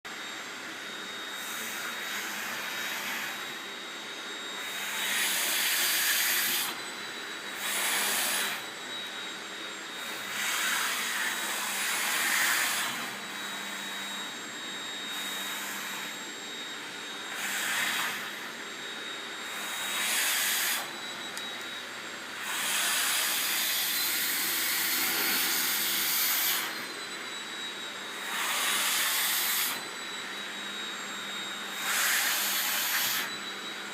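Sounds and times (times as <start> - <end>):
vacuum cleaner whining: 0.0 - 33.9.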